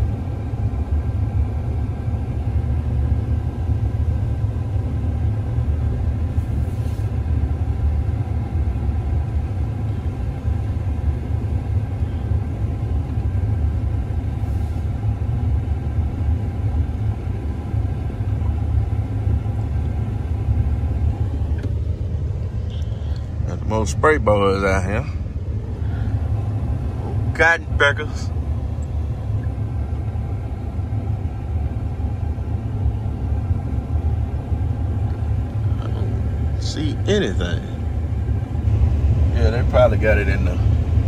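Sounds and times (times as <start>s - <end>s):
vehicle cab low rumble: 0.0s - 41.0s.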